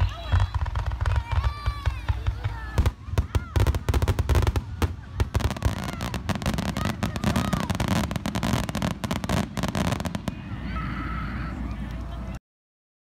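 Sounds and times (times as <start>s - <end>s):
fireworks crackling: 0.0s - 12.3s.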